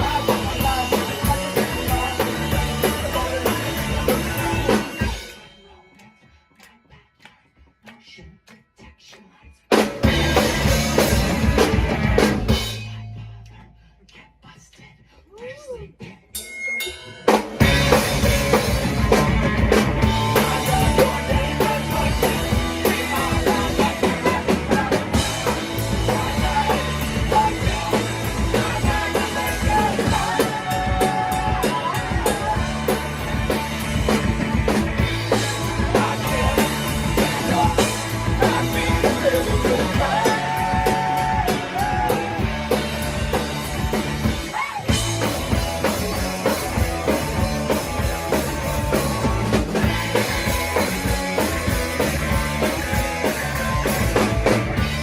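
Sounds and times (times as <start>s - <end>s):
punk rock band playing: 0.0s - 5.7s, 9.7s - 13.6s, 16.4s - 55.0s.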